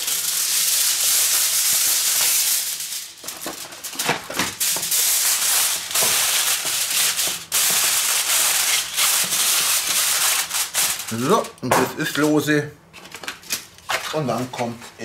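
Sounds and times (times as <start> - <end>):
kitchen foil crinkling: 0.0 - 14.7.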